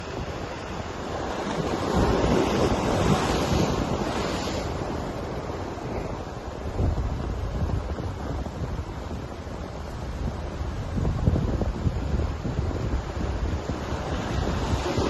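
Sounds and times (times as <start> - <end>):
waves crashing on rocks: 0.0 - 15.0
wind buffeting microphone: 0.0 - 15.0.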